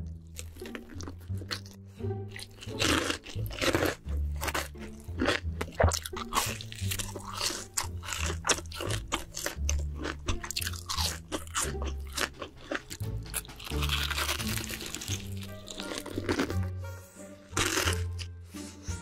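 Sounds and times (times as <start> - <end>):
background music bassline: 0.0 - 19.0
crunchy chewing: 0.2 - 16.7, 17.4 - 18.9.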